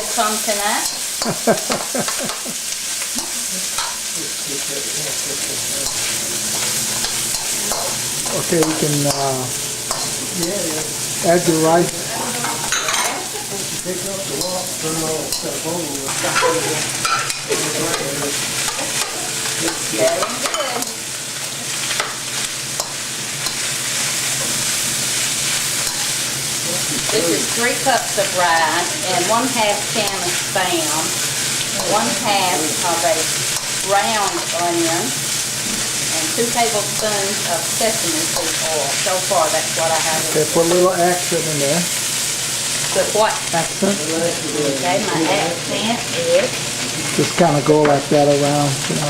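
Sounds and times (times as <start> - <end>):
meat sizzling in a wok: 0.0 - 49.0.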